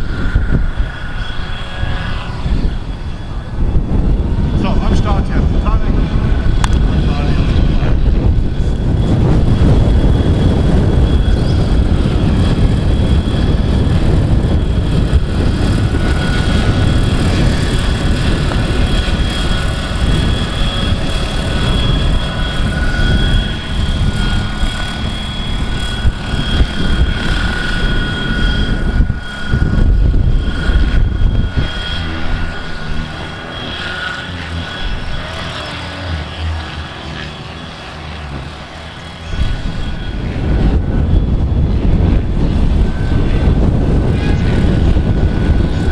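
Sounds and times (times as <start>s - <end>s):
model helicopter high whine: 0.0s - 45.9s
wind buffeting microphone: 0.0s - 45.9s.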